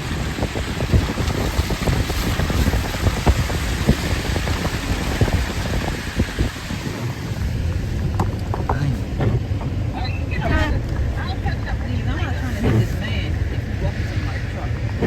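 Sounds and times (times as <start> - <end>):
vehicle driving rumble: 0.0 - 15.0
wind buffeting microphone: 0.0 - 15.0.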